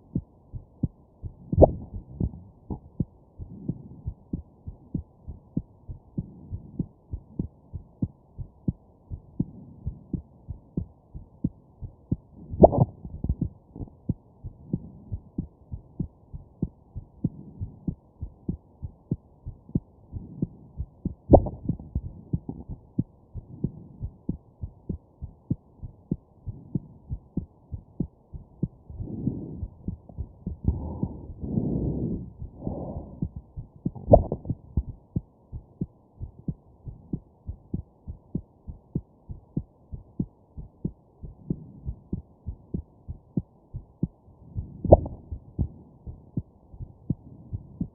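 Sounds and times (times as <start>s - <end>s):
heartbeat thumps: 0.0s - 47.9s.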